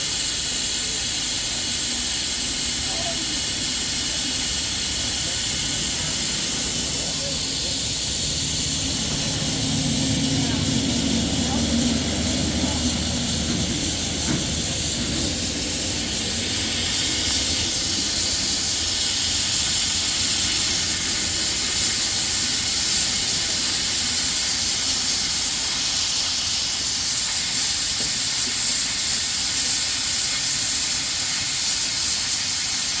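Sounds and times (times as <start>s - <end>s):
steam hissing from locomotive: 0.0s - 33.0s.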